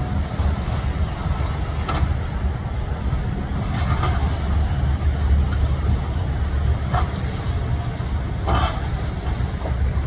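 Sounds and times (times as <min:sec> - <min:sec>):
distant diesel locomotive rumble: 0:00.0 - 0:10.0
wind buffeting microphone: 0:00.0 - 0:10.0.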